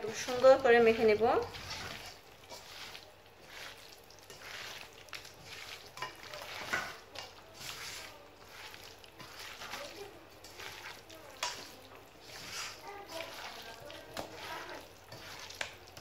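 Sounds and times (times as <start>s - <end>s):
hands squishing meat in paste: 0.1s - 16.0s.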